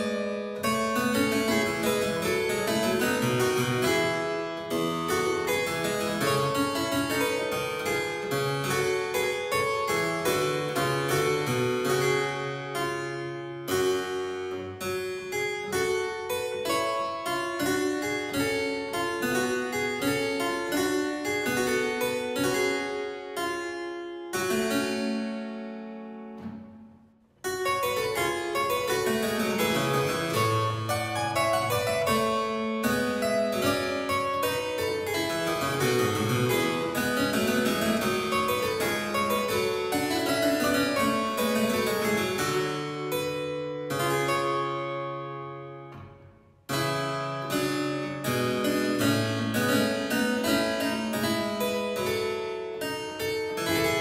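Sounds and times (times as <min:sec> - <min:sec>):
solo harpsichord music: 0:00.0 - 0:54.0.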